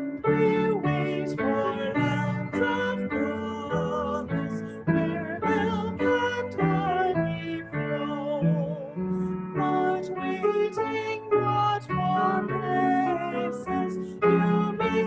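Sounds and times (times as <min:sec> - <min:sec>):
person singing a hymn: 0:00.0 - 0:15.0
piano accompaniment: 0:00.0 - 0:15.0.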